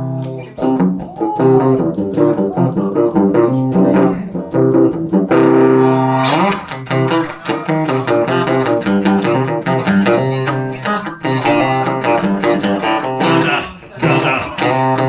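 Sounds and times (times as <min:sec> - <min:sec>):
electric guitar playing: 0:00.0 - 0:15.0.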